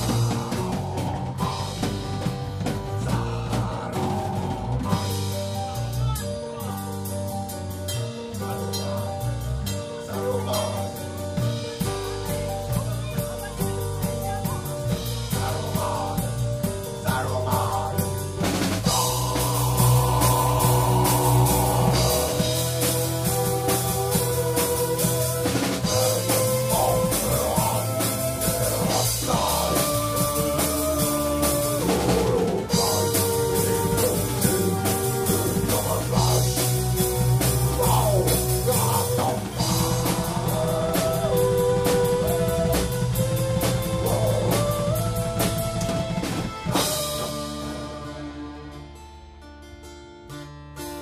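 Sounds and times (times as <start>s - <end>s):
live folk metal band: 0.0s - 51.0s.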